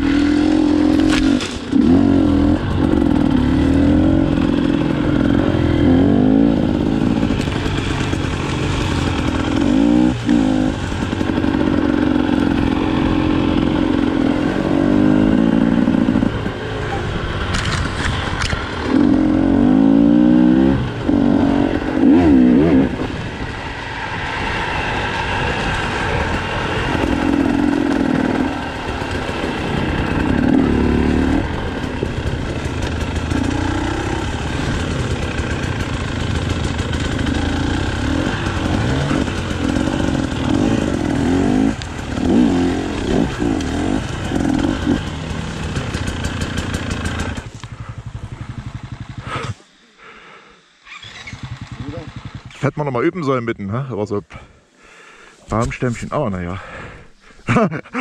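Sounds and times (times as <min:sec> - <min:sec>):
motorcycle engine revving: 0:00.0 - 0:53.1.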